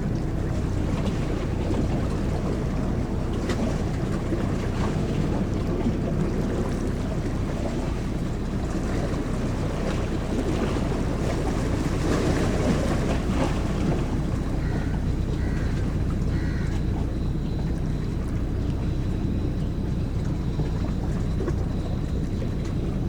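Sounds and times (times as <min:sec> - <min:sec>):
ferry engines droning: 0:00.0 - 0:23.0
sea wash: 0:00.0 - 0:23.0.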